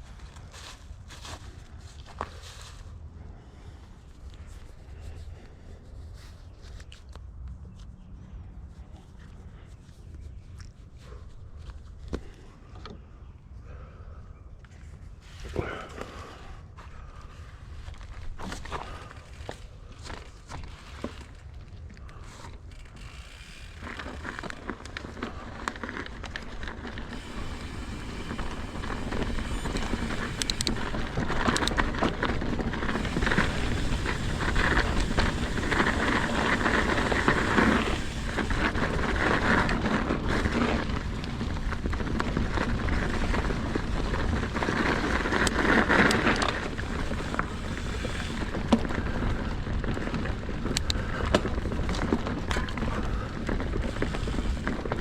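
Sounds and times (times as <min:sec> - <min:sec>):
bike clicks and rattles: 0:00.0 - 0:55.0
bike tyre noise on dirt: 0:00.0 - 0:55.0
wind rumbling on microphone: 0:00.0 - 0:55.0.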